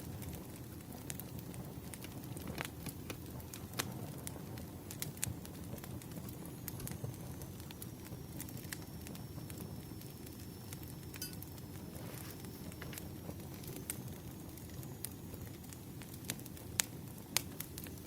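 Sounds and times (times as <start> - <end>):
fire crackles and pops: 0.0 - 18.0
wood fire rumble: 0.0 - 18.0.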